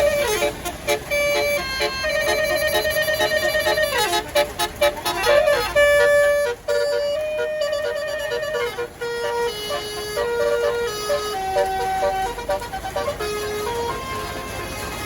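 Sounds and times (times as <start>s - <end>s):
bus horn playing a tune: 0.0s - 15.0s.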